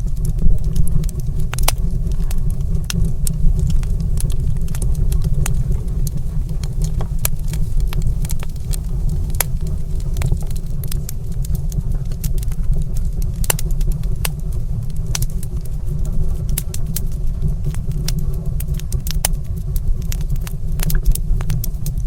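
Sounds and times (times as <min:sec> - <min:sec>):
fire crackling in a fireplace: 0:00.0 - 0:22.0.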